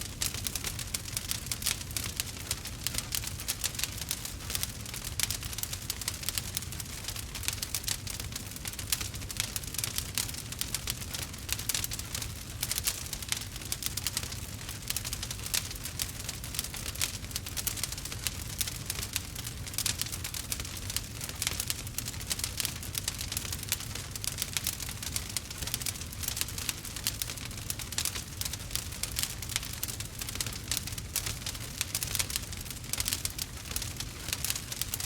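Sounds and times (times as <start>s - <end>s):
fire low rumble: 0.0s - 35.0s
wood fire crackling: 0.0s - 35.0s.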